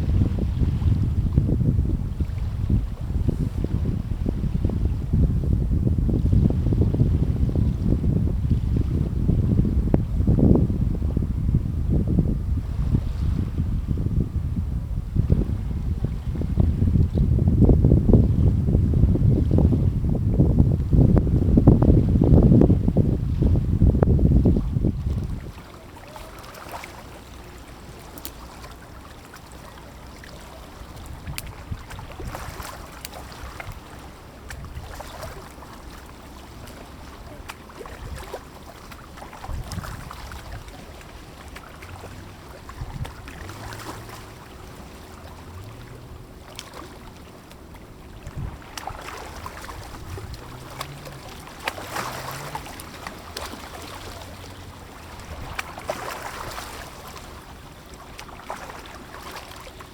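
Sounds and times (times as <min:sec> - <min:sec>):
water lapping against boat: 0:00.0 - 0:59.9
wind noise on microphone: 0:00.0 - 0:59.9.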